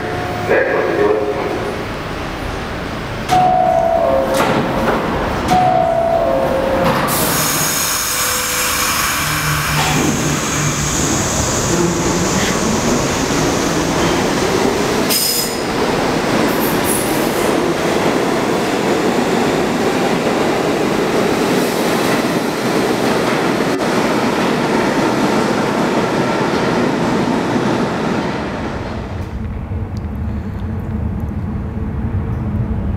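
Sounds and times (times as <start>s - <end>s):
wheels rumbling on rail: 0.0s - 32.9s.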